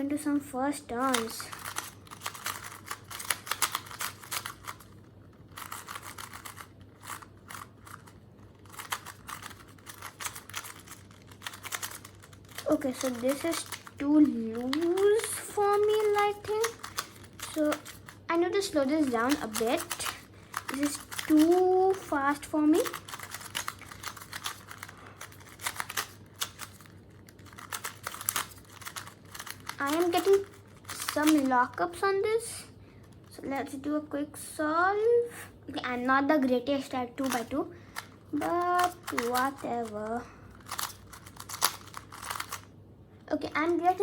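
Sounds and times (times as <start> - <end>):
speed cube plastic clicks: 1.0 - 31.8, 37.2 - 42.7.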